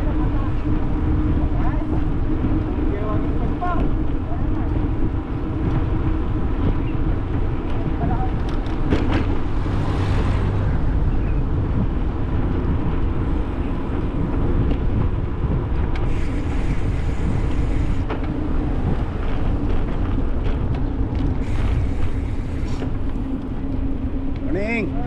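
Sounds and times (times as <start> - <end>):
constant hum: 0.0 - 25.0
road rumble: 0.0 - 25.0
wind buffeting microphone: 0.0 - 25.0.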